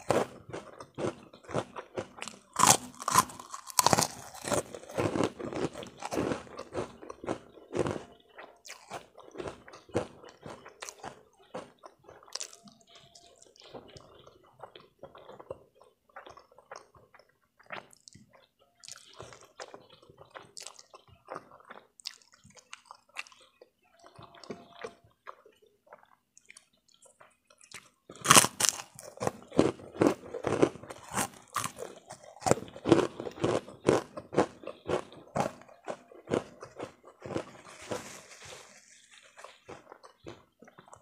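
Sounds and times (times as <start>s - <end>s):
crisp cracker crunching: 0.0s - 24.9s, 25.9s - 41.0s
soft chewing and mouth clicks: 0.0s - 41.0s.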